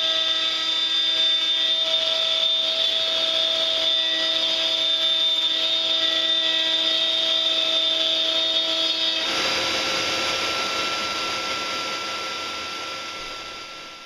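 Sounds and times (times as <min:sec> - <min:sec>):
router whining: 0:00.0 - 0:14.0.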